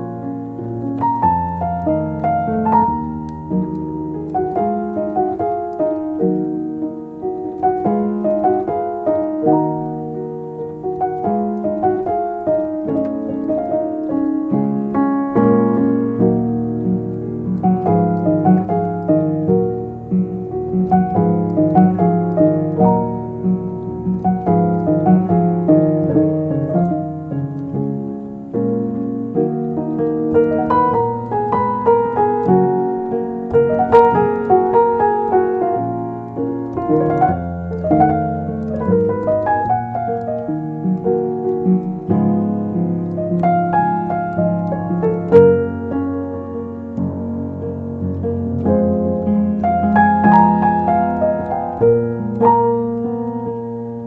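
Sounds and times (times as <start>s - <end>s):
piano melody with chords: 0.0s - 54.0s.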